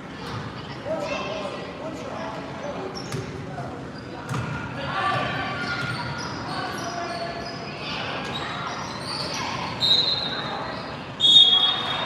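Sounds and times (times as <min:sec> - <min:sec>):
voices of players and spectators: 0:00.0 - 0:12.0.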